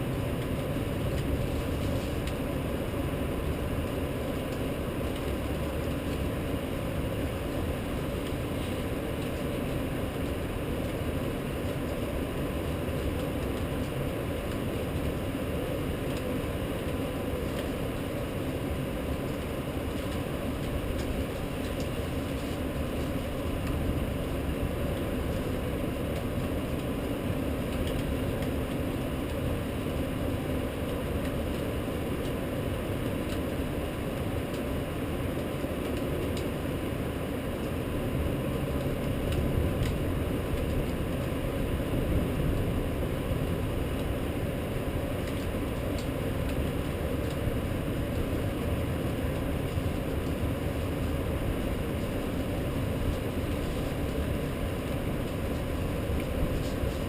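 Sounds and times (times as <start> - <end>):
low city rumble: 0.0 - 57.0
rain rushing: 0.0 - 57.0.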